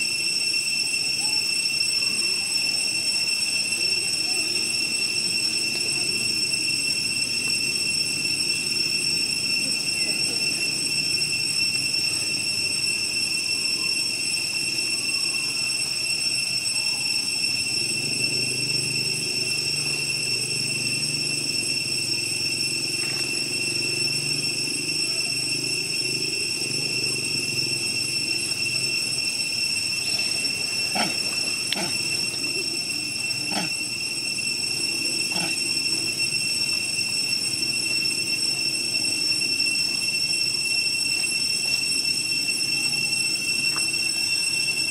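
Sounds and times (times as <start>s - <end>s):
forest insects droning: 0.0s - 44.9s.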